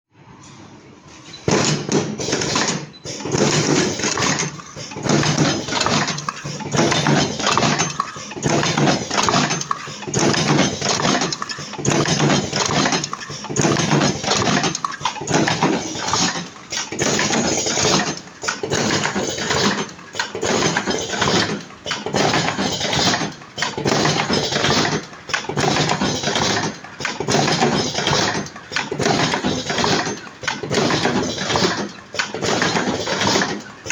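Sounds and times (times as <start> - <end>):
cartoning machine clattering: 1.4 - 33.9.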